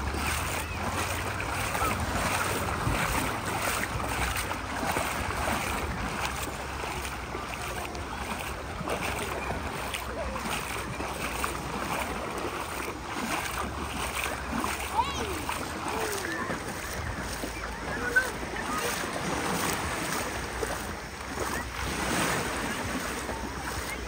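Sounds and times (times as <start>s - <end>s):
small water splashes: 0.0s - 24.0s
water sloshing and lapping: 0.0s - 24.0s.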